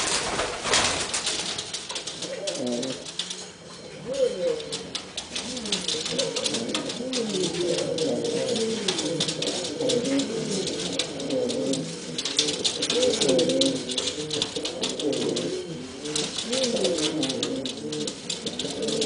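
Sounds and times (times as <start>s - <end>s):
light ticks and rustles: 0.0s - 19.0s
pigeons cooing: 0.0s - 19.0s.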